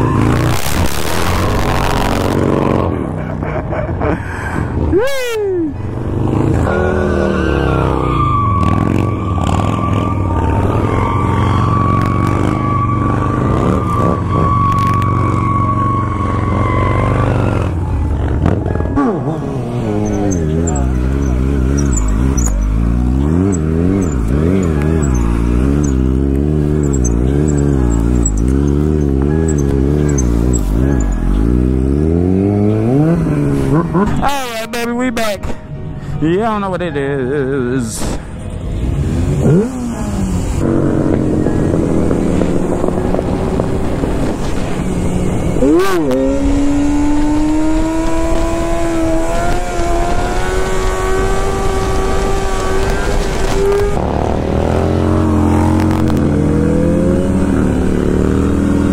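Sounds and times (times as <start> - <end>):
motorcycle engine revving: 0.0 - 3.4, 5.8 - 34.3, 38.6 - 58.9.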